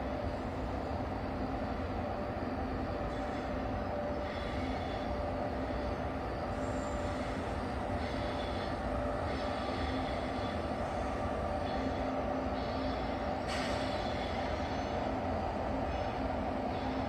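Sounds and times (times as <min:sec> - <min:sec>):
faint constant whine: 0:00.0 - 0:17.0
train running rumble: 0:00.0 - 0:17.0.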